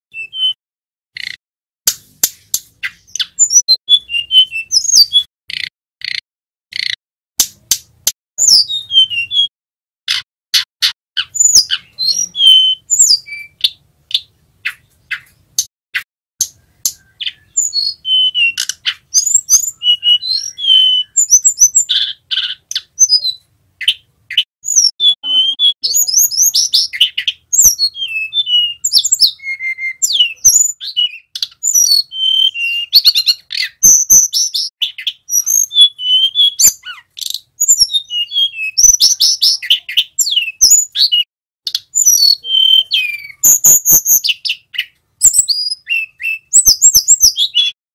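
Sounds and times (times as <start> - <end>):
bird singing whistles and trills: 0.1 - 0.6, 2.8 - 6.2, 8.4 - 9.5, 10.8 - 15.6, 16.4 - 47.8.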